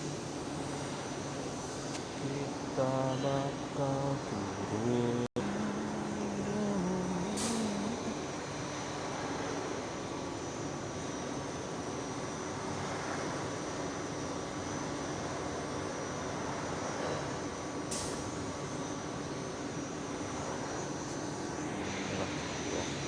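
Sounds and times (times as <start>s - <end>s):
faint constant tones: 0.0s - 23.0s.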